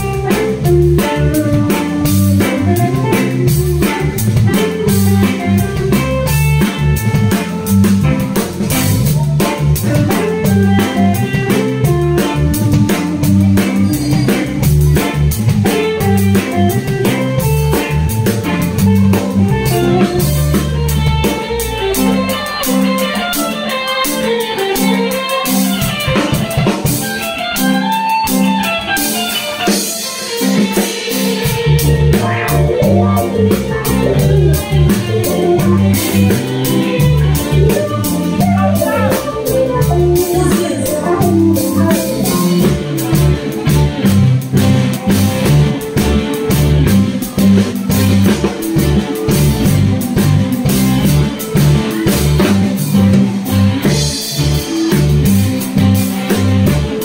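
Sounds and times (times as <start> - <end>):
bass guitar: 0.0 - 57.0
drum kit with cymbals: 0.0 - 57.0
electric keyboard: 0.0 - 57.0.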